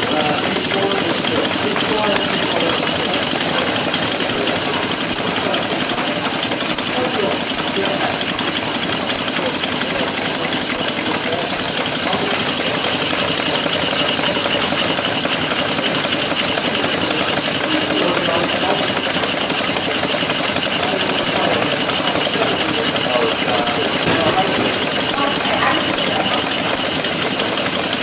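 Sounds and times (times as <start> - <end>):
murmur of voices: 0.0 - 28.0
sharp repeating tick: 0.0 - 28.0
small engines clattering: 0.0 - 28.0.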